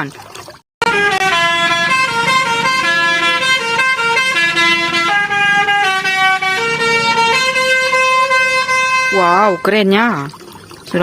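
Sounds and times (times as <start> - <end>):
multi-tone bus horn playing a tune: 0.8 - 9.8.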